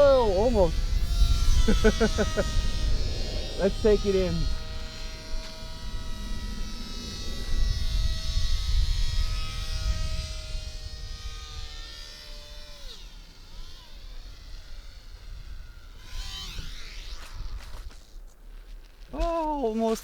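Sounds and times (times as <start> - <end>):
wind on microphone: 0.0 - 18.2
model airplane motors whining: 0.0 - 19.0.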